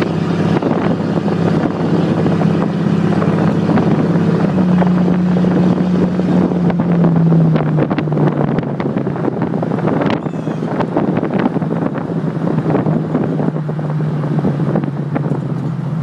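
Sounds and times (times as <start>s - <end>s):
loud car exhaust drone: 0.0s - 16.0s
wind noise on microphone: 0.0s - 16.0s.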